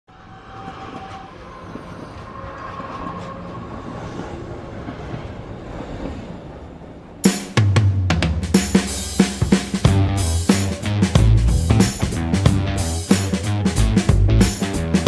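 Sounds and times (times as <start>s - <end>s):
train running rumble: 0.1s - 15.0s.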